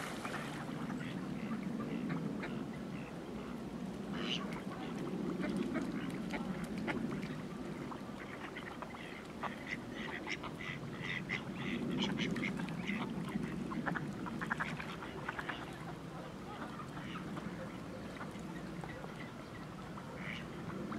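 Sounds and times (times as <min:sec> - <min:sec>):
low background noise: 0:00.0 - 0:20.9.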